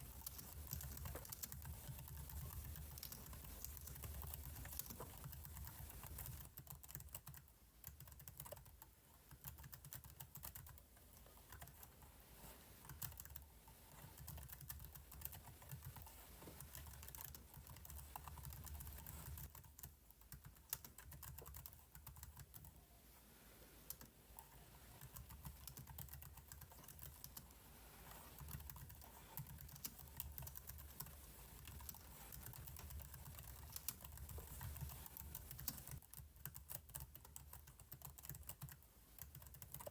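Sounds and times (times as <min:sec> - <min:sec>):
computer keyboard keys clicking: 0:00.1 - 0:10.8, 0:14.1 - 0:16.1, 0:16.7 - 0:22.7, 0:25.0 - 0:27.5, 0:28.4 - 0:39.9.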